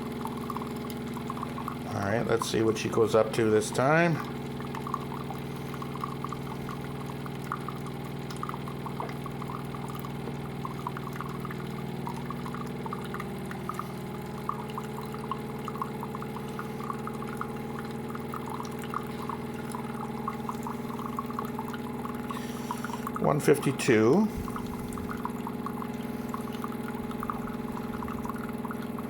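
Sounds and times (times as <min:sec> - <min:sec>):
coffee machine humming: 0:00.0 - 0:29.0
drip ticks: 0:00.0 - 0:29.0
liquid pouring into a cup: 0:00.0 - 0:29.0.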